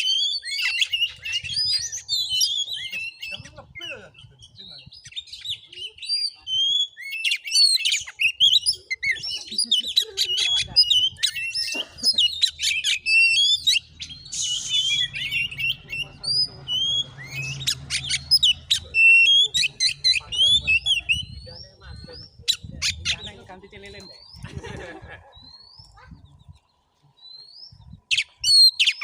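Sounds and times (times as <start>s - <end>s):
bird singing whistled song: 0.0s - 23.3s, 27.2s - 29.0s.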